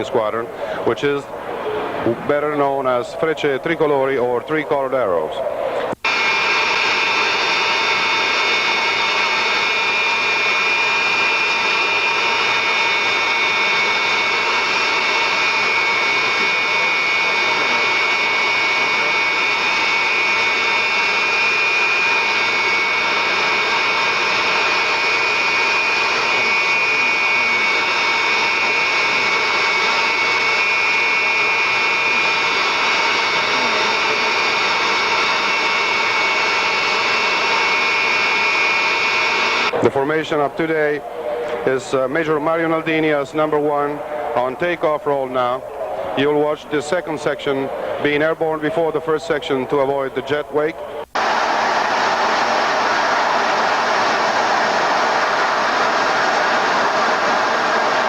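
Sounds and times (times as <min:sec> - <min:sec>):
jet engine turbine whine: 0:00.0 - 0:58.0.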